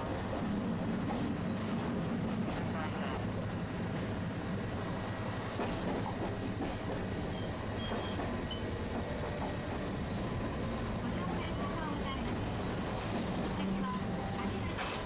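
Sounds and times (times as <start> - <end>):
streetcar wheels rumbling on rail: 0.0 - 15.0.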